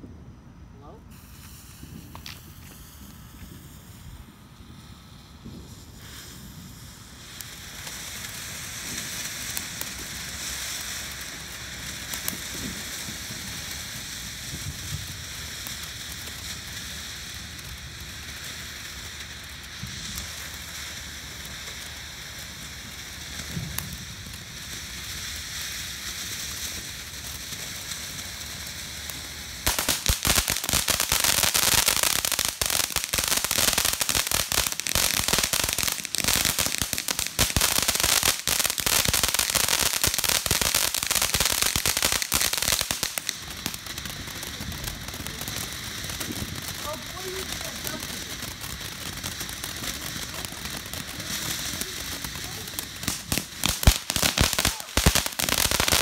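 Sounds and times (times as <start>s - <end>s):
firework fountain hissing: 0.0s - 56.0s
firework stars crackling: 0.0s - 56.0s.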